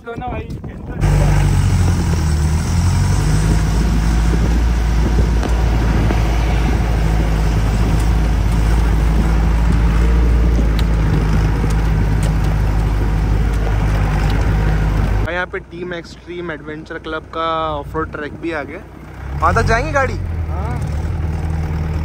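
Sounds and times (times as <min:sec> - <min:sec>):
off-road vehicle engine rumbling: 0:00.0 - 0:22.0.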